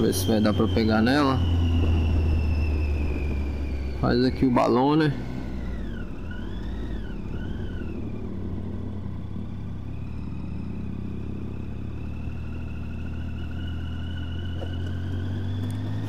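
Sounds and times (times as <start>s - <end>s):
motorcycle engine with high whine: 0.0s - 16.0s.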